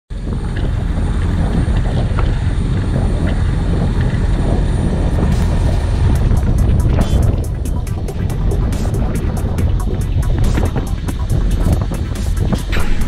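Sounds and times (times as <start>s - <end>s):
diesel engines low rumble: 0.1s - 13.0s.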